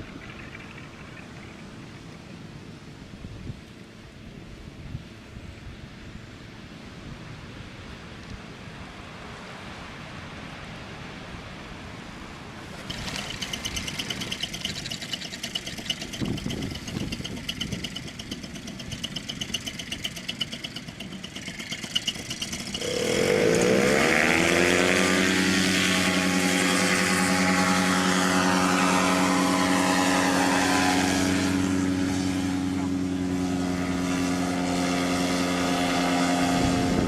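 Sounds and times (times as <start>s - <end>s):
paramotor engine and propeller: 0.0s - 37.0s.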